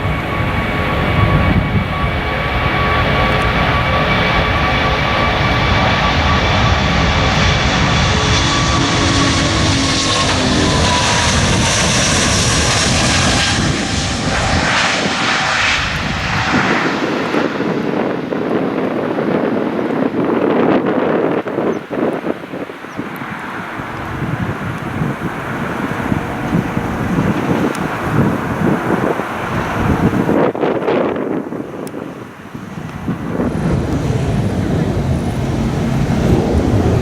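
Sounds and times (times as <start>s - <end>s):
jet engines at takeoff: 0.0s - 37.0s.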